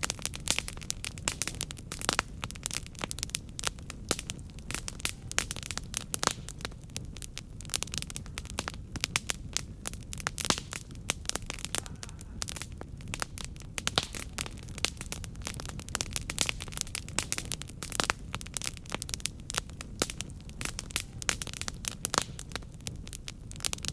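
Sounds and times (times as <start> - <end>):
low rumble of burning: 0.0 - 23.9
wood fire crackling: 0.0 - 23.9.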